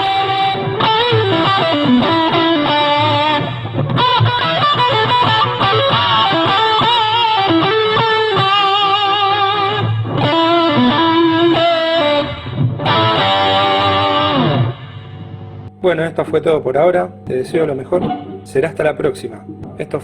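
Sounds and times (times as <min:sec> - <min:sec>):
fuzz electric guitar lead: 0:00.0 - 0:20.0.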